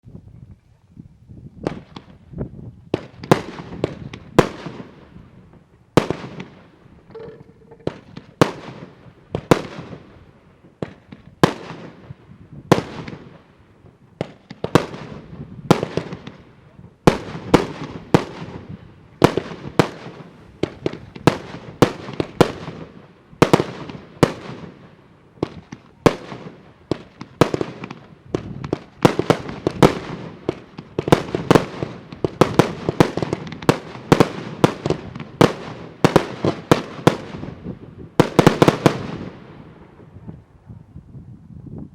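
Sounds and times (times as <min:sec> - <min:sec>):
fireworks bangs: 0:02.9 - 0:40.3.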